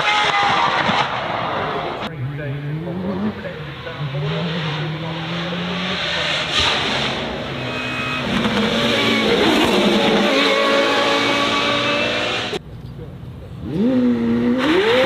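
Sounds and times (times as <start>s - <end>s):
racing car engine revving: 0.0s - 12.6s, 13.6s - 15.0s.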